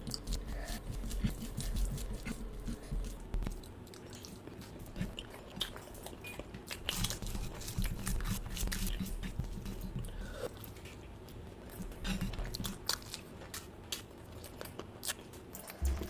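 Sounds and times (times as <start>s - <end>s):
food crunching: 0.0s - 16.0s
person chewing food: 0.0s - 16.0s.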